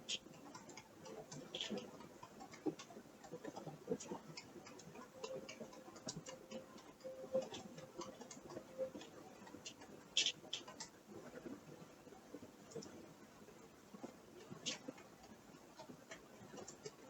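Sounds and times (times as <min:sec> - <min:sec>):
faint steady hum: 0:00.0 - 0:17.0
small clicks and creaks: 0:00.0 - 0:17.0.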